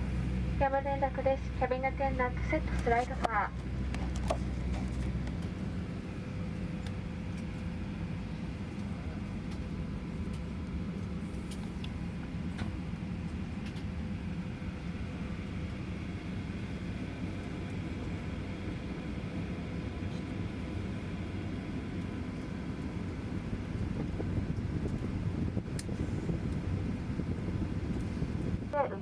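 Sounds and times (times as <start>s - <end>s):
aircraft cabin hum: 0.0s - 29.0s
faint steady whine: 0.0s - 29.0s.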